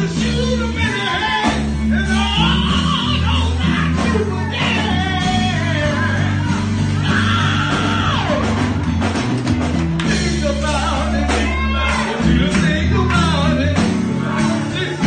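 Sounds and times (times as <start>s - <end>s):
men singing into a microphone: 0.0s - 8.4s, 10.0s - 15.0s
bass line: 0.0s - 15.0s
instrumental accompaniment: 0.0s - 15.0s.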